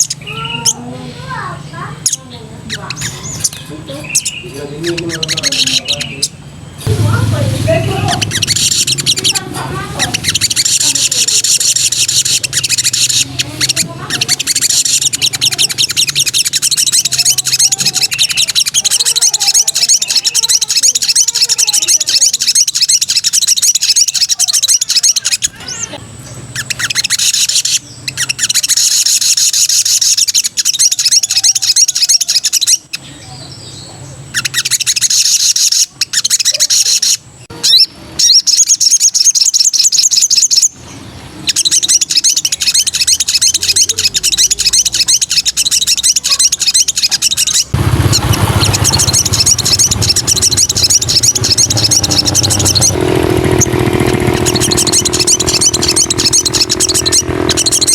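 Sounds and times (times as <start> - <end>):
bird trilling song: 0.0 - 57.9.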